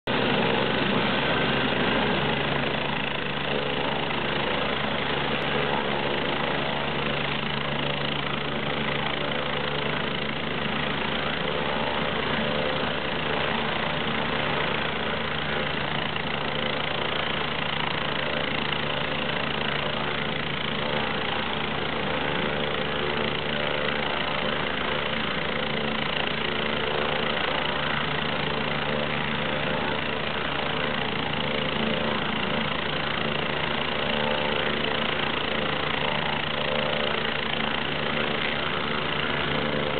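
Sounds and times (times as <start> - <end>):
helicopter turbine idling: 0.0 - 39.9.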